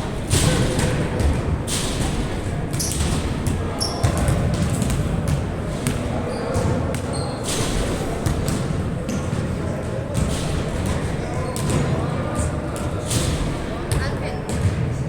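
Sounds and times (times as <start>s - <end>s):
basketball bouncing on a court: 0.0s - 15.0s
crowd noise: 0.0s - 15.0s.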